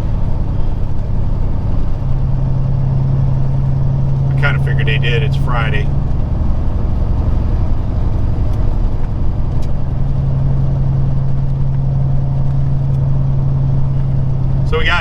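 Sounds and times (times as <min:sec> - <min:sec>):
diesel truck engine drone: 0:00.0 - 0:15.0.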